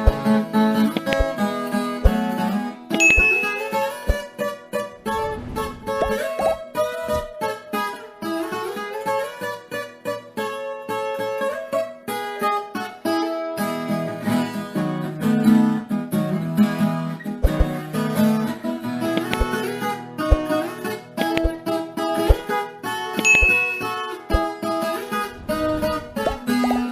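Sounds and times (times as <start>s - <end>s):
plucked acoustic guitar: 0.0s - 5.1s, 5.8s - 26.9s.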